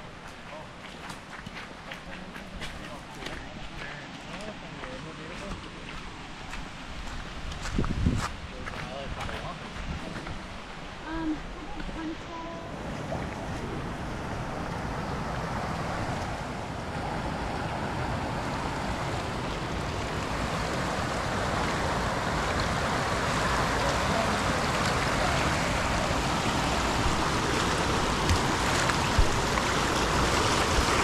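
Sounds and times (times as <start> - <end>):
rushing water: 0.0 - 31.0.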